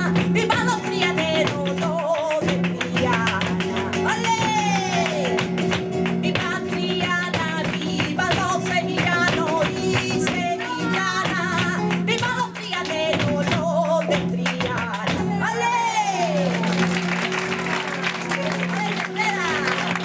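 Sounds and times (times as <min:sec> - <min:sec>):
woman singing: 0:00.0 - 0:16.9, 0:18.7 - 0:20.0
flamenco guitar: 0:00.0 - 0:20.0.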